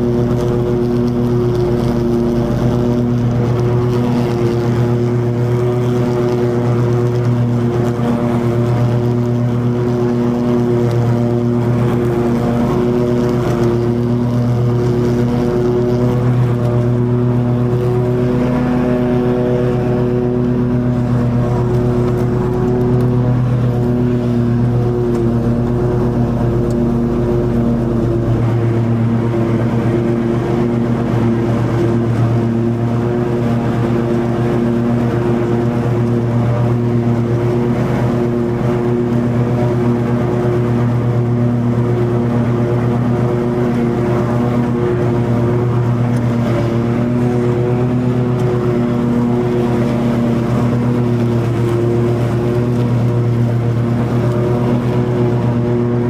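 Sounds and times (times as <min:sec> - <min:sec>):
lawn mower engine running: 0:00.0 - 0:56.0
mower blades cutting grass: 0:00.0 - 0:56.0.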